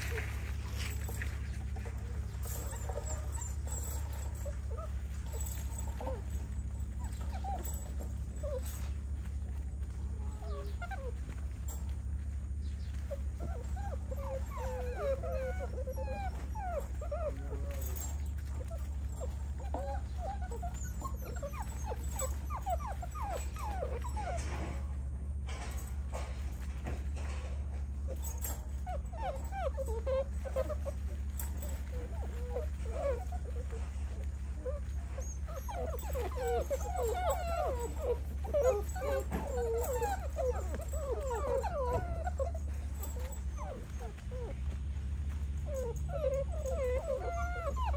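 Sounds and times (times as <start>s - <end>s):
puppies whining: 0.0s - 47.9s
steady low hum: 0.0s - 47.9s.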